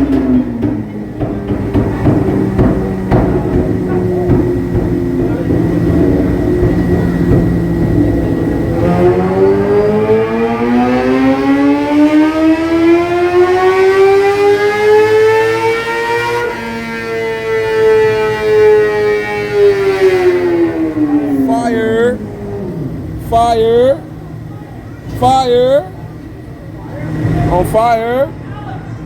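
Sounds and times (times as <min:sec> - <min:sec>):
motorcycle engine revving on dyno: 0:00.0 - 0:24.2.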